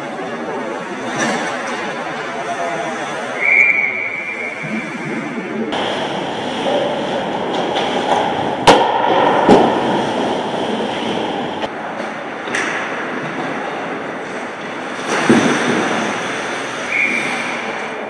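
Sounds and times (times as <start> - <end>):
skates scraping on ice: 0.2 - 18.0.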